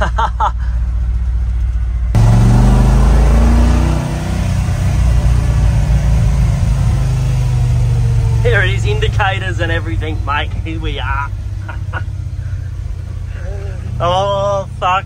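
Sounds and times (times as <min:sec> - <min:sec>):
road noise: 0:00.0 - 0:15.0
truck engine accelerating: 0:00.0 - 0:15.0.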